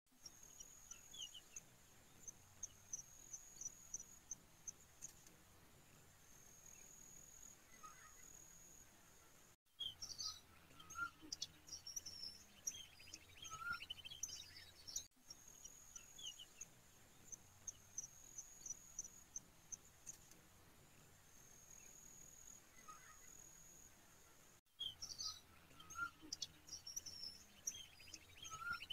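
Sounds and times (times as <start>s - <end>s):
bird chirps: 0.1s - 5.3s, 6.3s - 8.8s, 9.7s - 20.4s, 21.5s - 23.8s, 24.8s - 28.9s.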